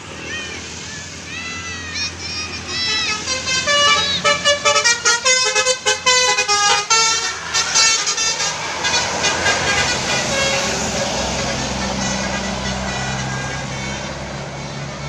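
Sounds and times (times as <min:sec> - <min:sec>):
bus engine running: 0:00.0 - 0:15.0
musical bus horn toots: 0:01.9 - 0:15.0.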